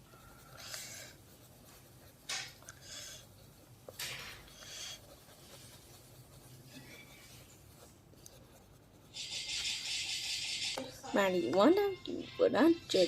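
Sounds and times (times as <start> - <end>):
pencil scratching on paper: 0.0 - 11.5
faint room hum: 0.0 - 13.0.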